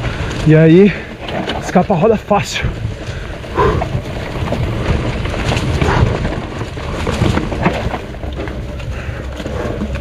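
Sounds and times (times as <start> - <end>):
bike rattling: 0.0 - 10.0
tyres on dirt: 0.0 - 10.0
wind rumbling on microphone: 0.0 - 10.0.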